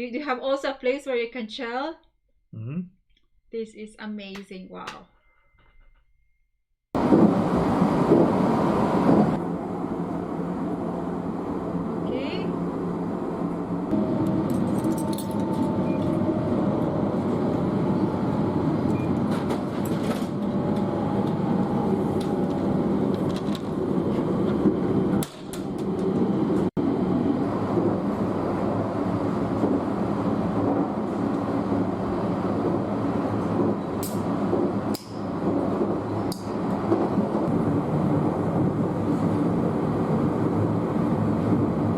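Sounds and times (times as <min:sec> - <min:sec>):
train rumbling: 0:07.0 - 0:41.9.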